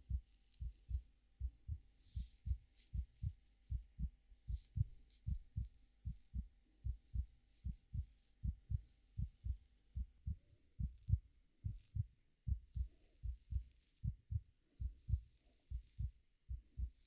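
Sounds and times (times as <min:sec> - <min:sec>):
heartbeat thumping: 0:00.0 - 0:17.0.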